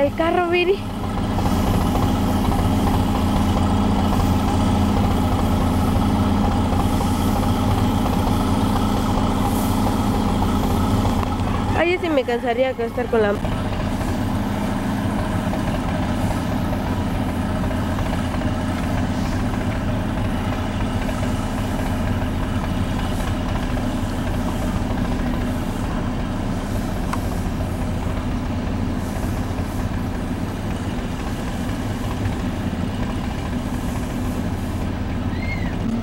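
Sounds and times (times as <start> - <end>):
truck engine humming: 0.0 - 36.0.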